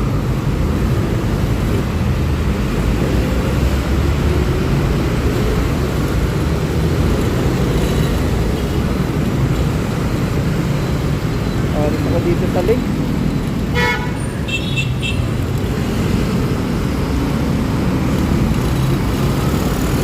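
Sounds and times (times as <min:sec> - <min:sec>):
wind and road rush: 0:00.0 - 0:20.0.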